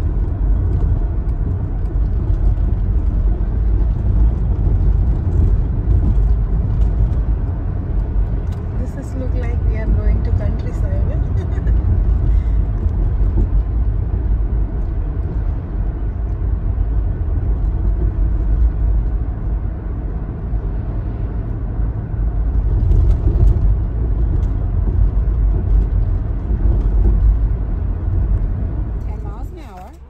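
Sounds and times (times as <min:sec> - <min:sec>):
car rumble from inside cabin: 0:00.0 - 0:30.0.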